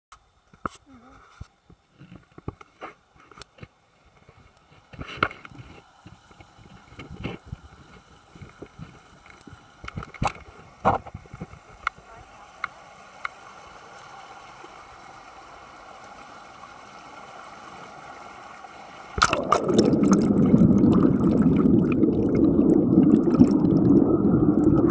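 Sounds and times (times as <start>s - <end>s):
water rushing over weir: 4.8s - 24.9s.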